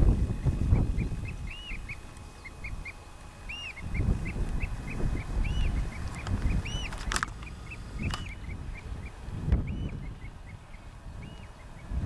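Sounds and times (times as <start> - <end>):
wind rumble on microphone: 0.0 - 12.0
bird calling: 0.4 - 12.0.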